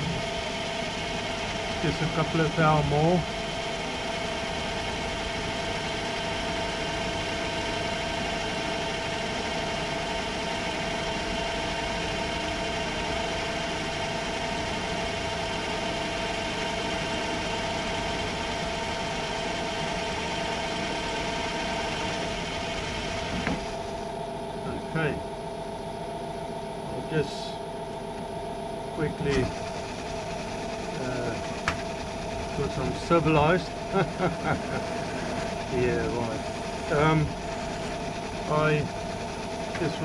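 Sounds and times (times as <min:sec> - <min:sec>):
metal lathe whirring: 0:00.0 - 0:24.2, 0:29.1 - 0:40.0.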